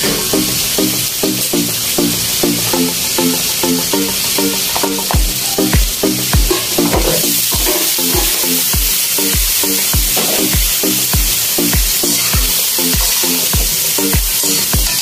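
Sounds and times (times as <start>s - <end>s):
electronic music with beat: 0.0s - 15.0s
shrimp frying in a wok: 0.0s - 15.0s.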